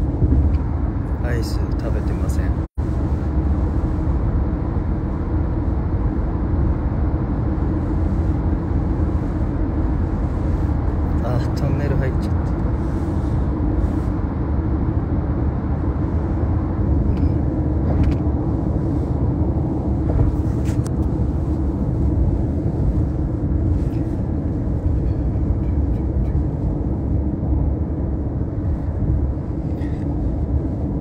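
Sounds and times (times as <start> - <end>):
road and engine rumble in car: 0.0 - 31.0.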